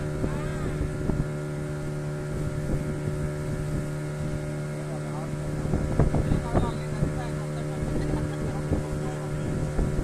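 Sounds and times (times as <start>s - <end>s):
boat motor humming: 0.0s - 10.0s
wind on microphone: 0.0s - 10.0s.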